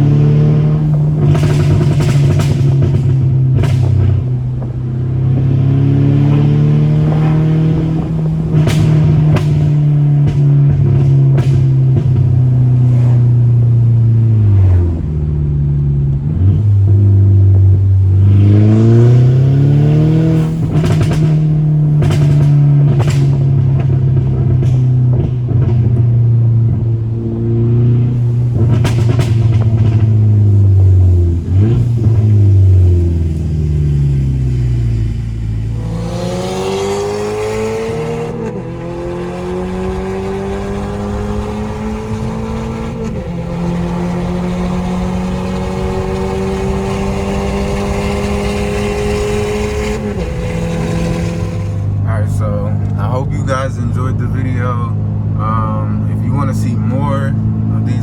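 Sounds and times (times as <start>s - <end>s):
car engine revving: 0.0s - 58.0s
exhaust pops and crackles: 0.0s - 58.0s.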